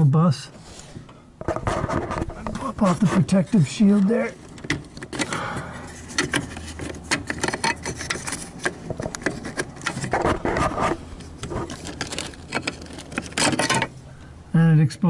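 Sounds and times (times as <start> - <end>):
plastic rubbing and scraping: 1.4 - 14.0.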